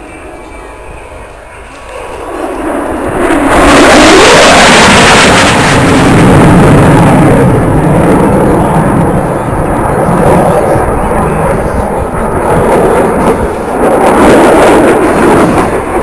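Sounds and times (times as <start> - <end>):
jet roaring past: 0.0 - 16.0.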